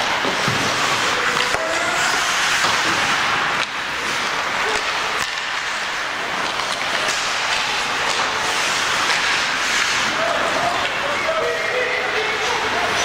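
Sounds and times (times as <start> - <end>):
crowd noise: 0.0 - 13.0
hockey sticks and puck clacking: 0.0 - 13.0
skates hissing on ice: 0.0 - 13.0.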